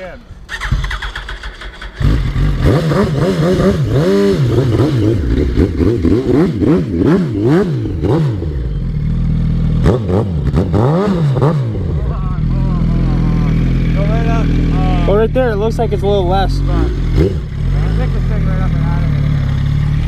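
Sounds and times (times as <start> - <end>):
motorcycle engine revving: 0.5 - 20.0.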